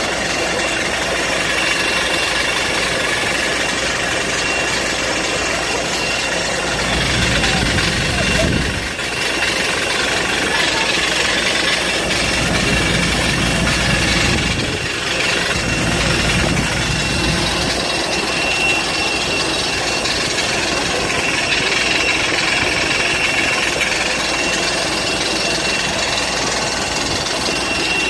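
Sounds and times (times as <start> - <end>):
air conditioning rushing: 0.0 - 28.0
thin high whine: 0.0 - 28.0.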